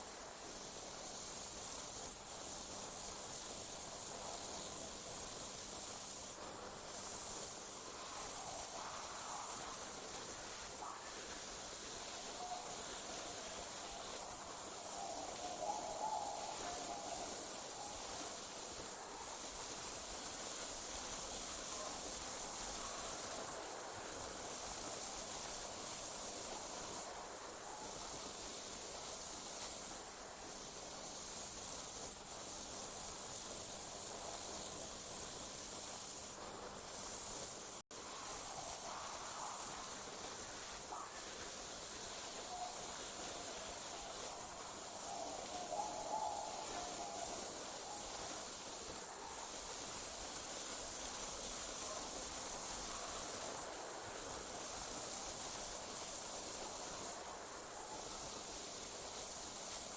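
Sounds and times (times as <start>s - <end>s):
night insects trilling: 0.0s - 59.9s.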